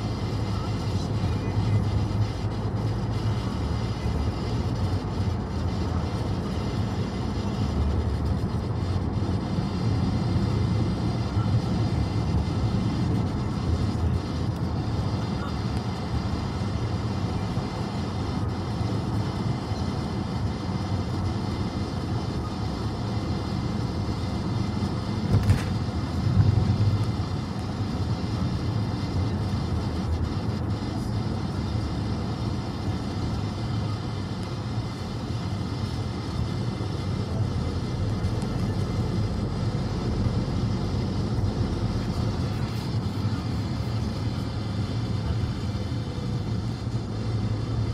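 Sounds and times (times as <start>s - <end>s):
car road and engine noise: 0.0s - 47.9s.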